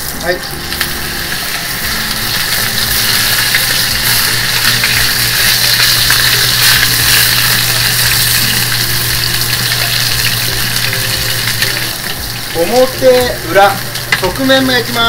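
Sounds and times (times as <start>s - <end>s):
pork sizzling in a frying pan: 0.0s - 15.0s.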